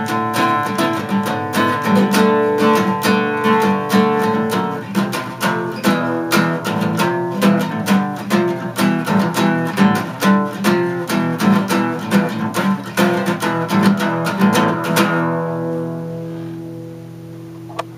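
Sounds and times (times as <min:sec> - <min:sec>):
acoustic guitar strumming: 0:00.0 - 0:17.8.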